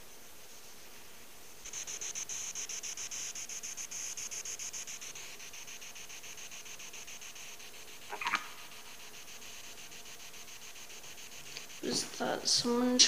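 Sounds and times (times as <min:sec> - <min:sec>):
electronic device pulsing hiss: 0:00.0 - 0:13.0.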